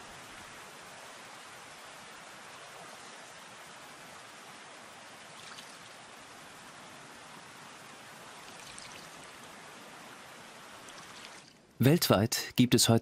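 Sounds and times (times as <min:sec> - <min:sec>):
flowing water rushing: 0:00.0 - 0:11.8.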